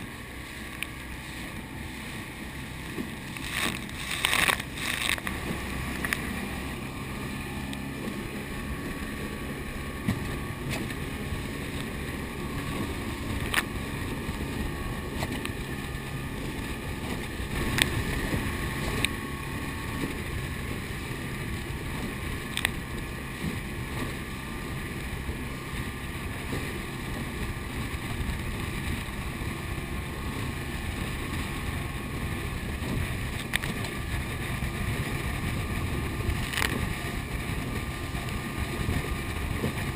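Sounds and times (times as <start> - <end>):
hull slapping waves: 0.0 - 39.9
water streaming past boat: 0.0 - 39.9
wind on microphone: 0.0 - 39.9.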